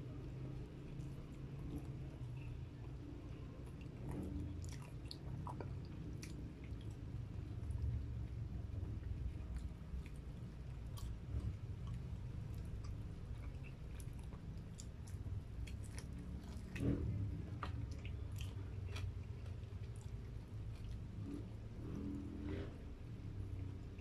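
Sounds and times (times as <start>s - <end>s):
crunchy chewing: 0.2s - 8.1s, 9.1s - 22.6s.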